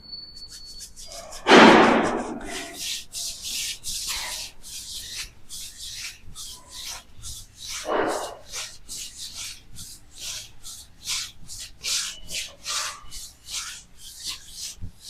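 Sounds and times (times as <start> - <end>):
hands rubbing over body: 0.4 - 15.0.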